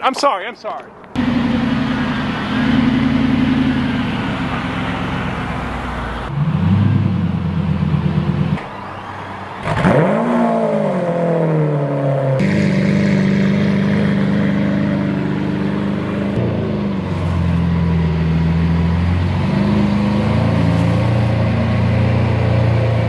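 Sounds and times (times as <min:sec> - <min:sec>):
car engines running: 0:00.9 - 0:23.0
engine revving: 0:01.2 - 0:23.0.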